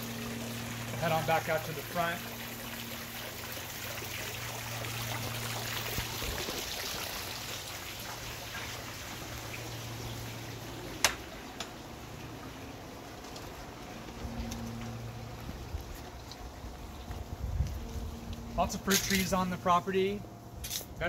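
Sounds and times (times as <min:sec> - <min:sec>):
fountain water splashing: 0:00.0 - 0:17.4.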